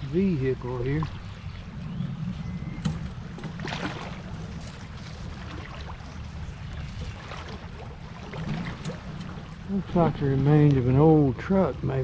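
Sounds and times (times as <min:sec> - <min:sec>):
creek water running: 0:00.0 - 0:12.0
wind rumble on microphone: 0:00.0 - 0:12.0.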